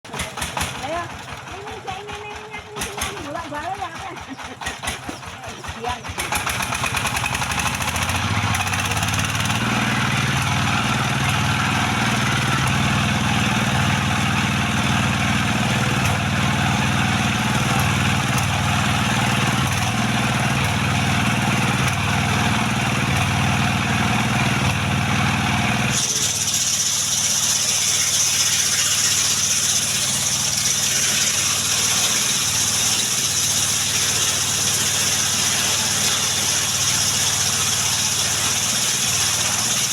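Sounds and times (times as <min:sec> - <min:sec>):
sawmill cutting wood: 0:00.0 - 0:39.9.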